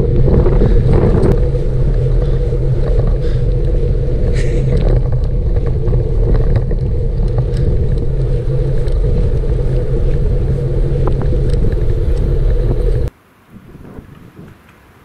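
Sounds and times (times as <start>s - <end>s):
low rumble: 0.0s - 13.1s
wind buffeting the microphone: 0.0s - 14.8s
faint ticks: 0.6s - 13.1s.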